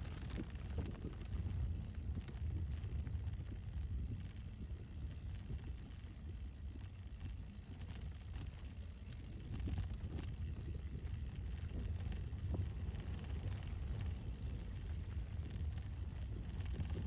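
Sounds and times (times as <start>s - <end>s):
wind buffeting microphone: 0.0s - 7.6s, 8.2s - 17.0s
bike ticking and rattling: 0.0s - 17.0s.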